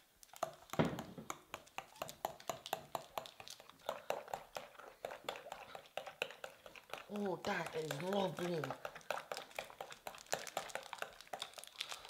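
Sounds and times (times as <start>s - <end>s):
slime squelching: 0.0s - 12.0s.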